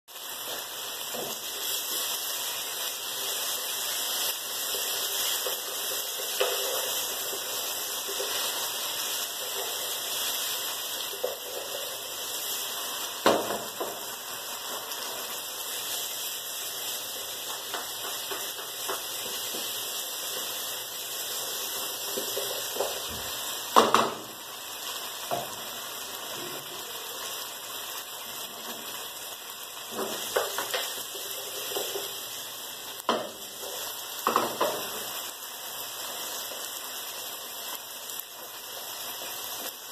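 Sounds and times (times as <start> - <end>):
ribs sizzling in a pan: 0.1 - 39.9.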